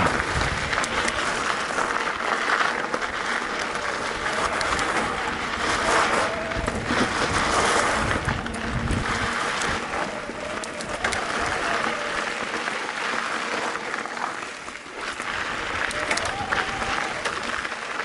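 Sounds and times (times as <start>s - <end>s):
bike clicks and rattles: 0.0s - 18.0s
bike tyres crunching on dirt: 0.0s - 18.0s.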